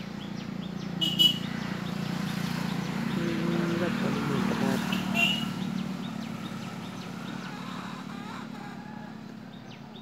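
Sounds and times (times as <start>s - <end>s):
birds chirping and whistling: 0.0s - 10.0s.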